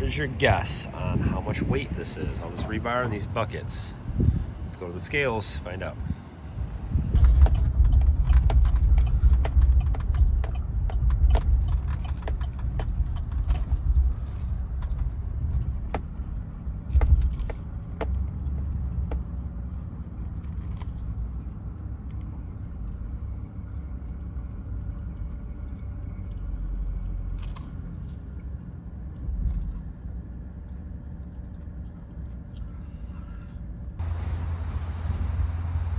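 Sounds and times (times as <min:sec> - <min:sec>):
vehicle rumbling: 0:00.0 - 0:35.9.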